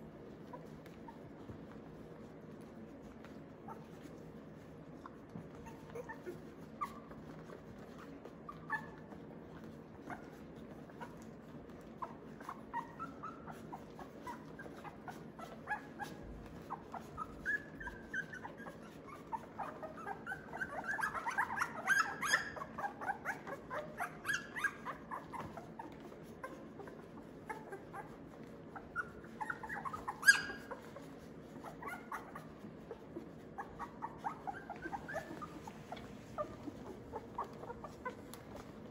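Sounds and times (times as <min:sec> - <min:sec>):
puppies squeaking and whimpering: 0:02.9 - 0:38.9.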